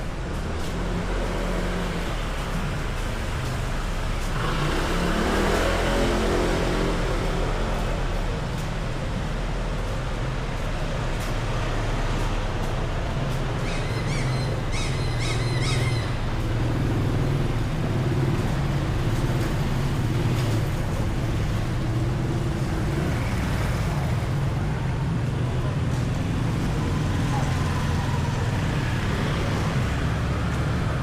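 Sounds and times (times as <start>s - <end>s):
vehicle engines humming: 0.0s - 31.0s.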